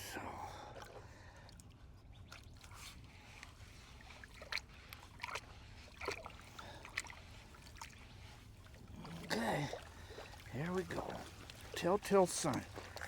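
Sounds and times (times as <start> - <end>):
water sloshing in a tub: 0.0 - 13.0
short water splashes: 2.3 - 13.0.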